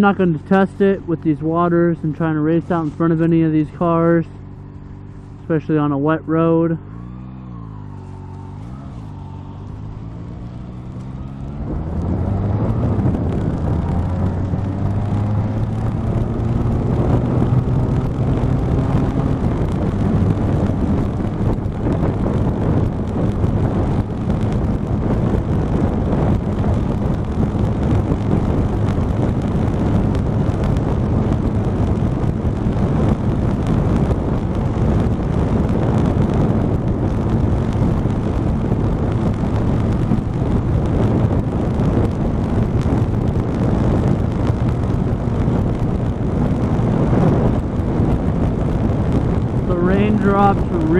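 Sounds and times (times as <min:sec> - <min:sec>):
motorcycle engine accelerating: 0:00.0 - 0:50.9
wind on microphone: 0:00.0 - 0:50.9.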